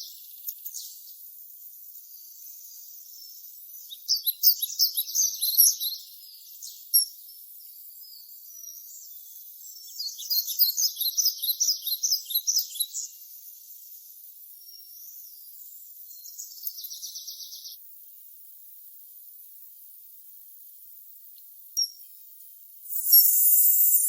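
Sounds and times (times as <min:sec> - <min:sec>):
songbird chirping: 0:00.0 - 0:18.1, 0:19.1 - 0:24.0.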